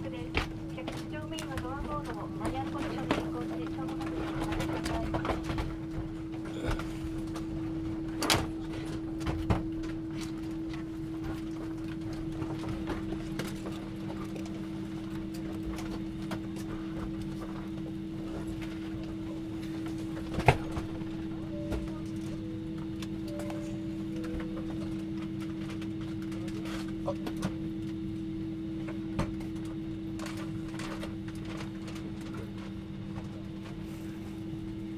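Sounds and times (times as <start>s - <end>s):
aircraft cabin hum: 0.0s - 34.9s
lower hum: 0.0s - 34.9s.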